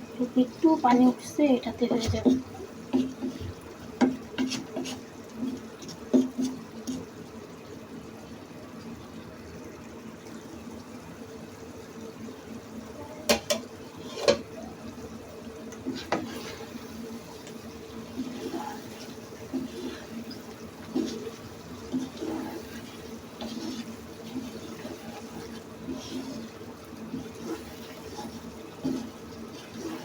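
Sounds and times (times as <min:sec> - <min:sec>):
curry simmering and bubbling: 0:00.0 - 0:30.0.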